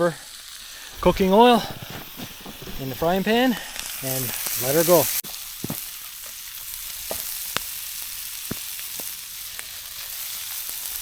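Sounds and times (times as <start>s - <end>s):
oil popping and crackling: 0.0s - 11.0s
sausage sizzling in a frying pan: 0.0s - 11.0s.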